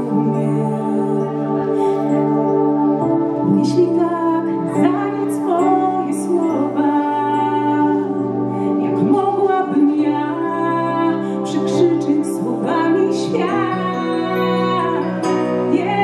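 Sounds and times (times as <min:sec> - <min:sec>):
sustained keyboard chords: 0:00.0 - 0:16.0
woman singing ballad: 0:00.0 - 0:16.0.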